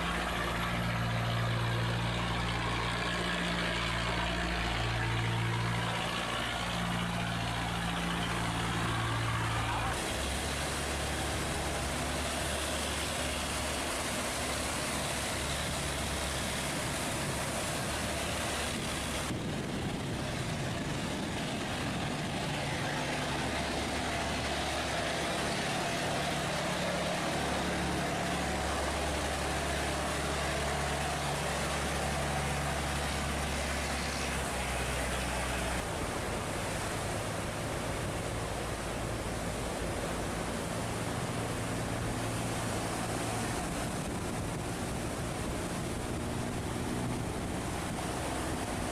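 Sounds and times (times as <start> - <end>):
boat engine humming: 0.0 - 48.9
rushing water: 0.0 - 48.9.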